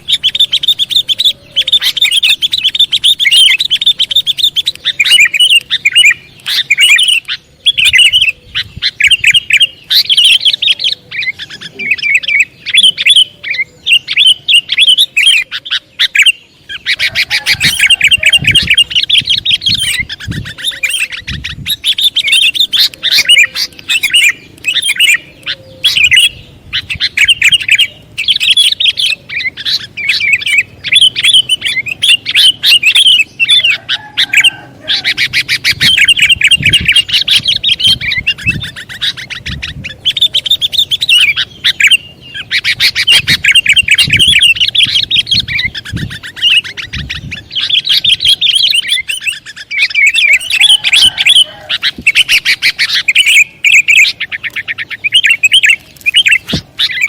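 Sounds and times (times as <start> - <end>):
bird sharp rapid chirping: 0.0 - 57.0.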